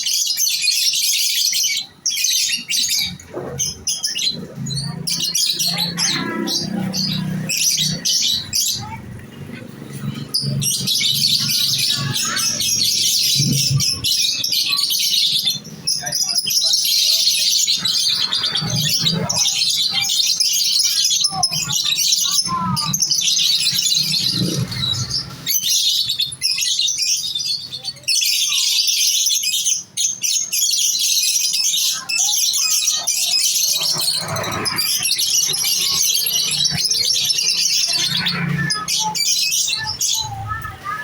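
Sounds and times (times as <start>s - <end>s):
birds chattering: 0.0s - 41.0s.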